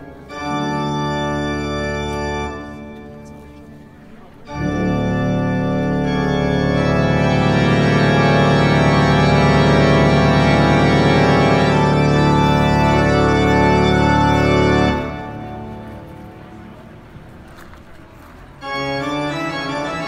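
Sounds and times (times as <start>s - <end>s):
pipe organ sustained chord: 0.0s - 17.7s, 18.6s - 20.0s.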